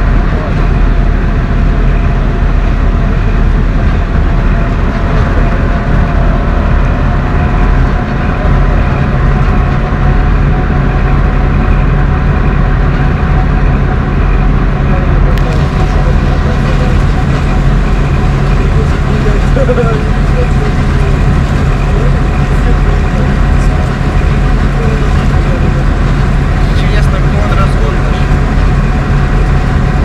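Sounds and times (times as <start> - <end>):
bus engine and road drone: 0.0 - 30.0.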